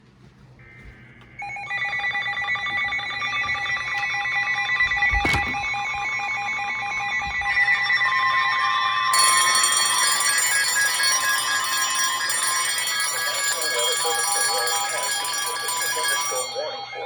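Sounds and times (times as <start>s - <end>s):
electric alarm bell ringing: 0.6s - 17.0s.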